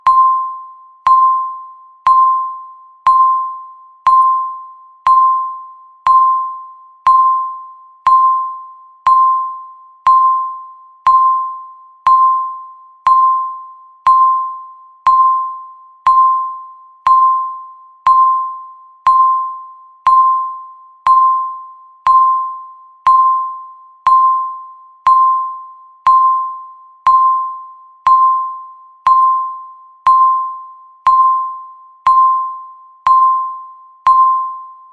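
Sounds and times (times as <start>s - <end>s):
timer electronic beeps: 0.0s - 34.9s.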